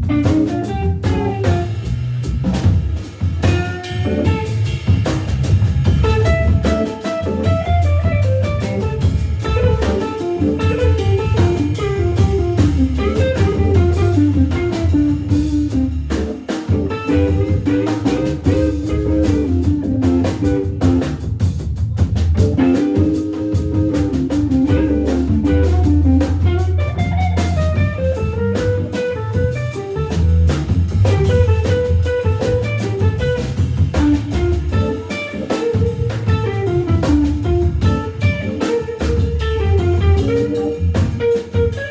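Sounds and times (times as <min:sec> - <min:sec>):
electric guitar melody: 0:00.0 - 0:02.0, 0:02.8 - 0:21.5, 0:22.3 - 0:41.9
drum kit groove: 0:00.0 - 0:41.9.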